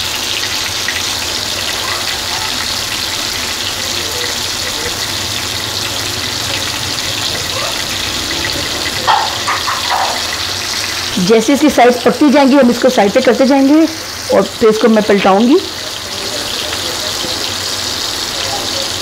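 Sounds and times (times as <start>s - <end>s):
kebabs sizzling in hot oil: 0.0s - 19.0s.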